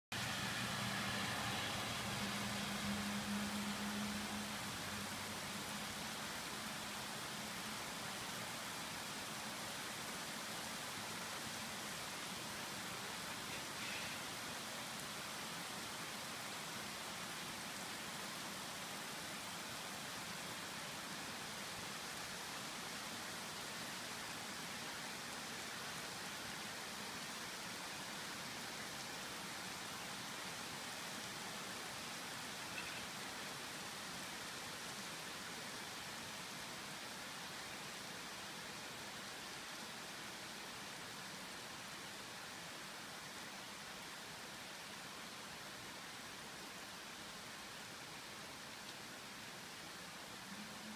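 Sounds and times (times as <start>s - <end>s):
steady rain patter: 0.1s - 50.9s.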